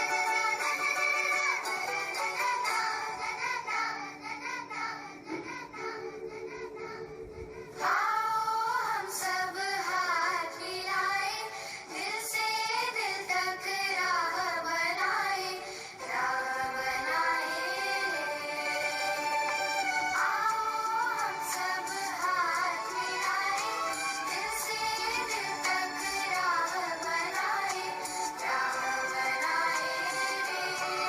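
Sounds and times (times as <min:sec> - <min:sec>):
backing music: 0:00.0 - 0:11.1, 0:15.0 - 0:31.0
child singing: 0:00.0 - 0:31.0.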